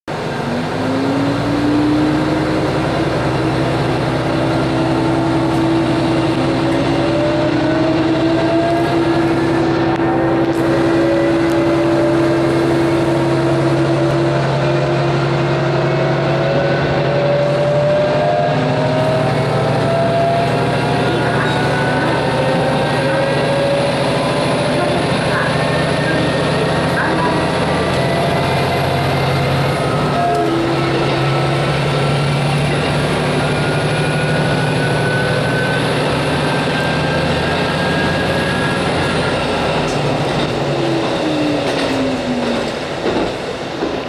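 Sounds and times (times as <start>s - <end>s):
diesel railcar engine drone: 0.0s - 44.0s.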